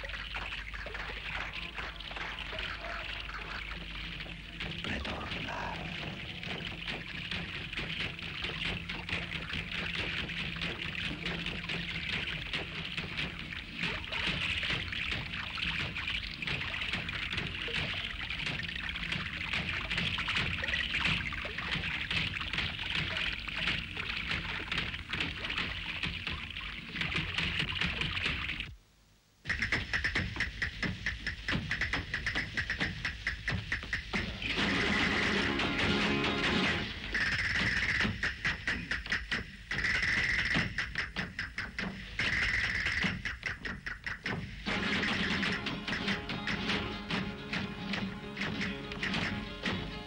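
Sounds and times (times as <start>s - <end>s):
water pouring from fountain: 0.0s - 28.7s, 30.8s - 50.0s.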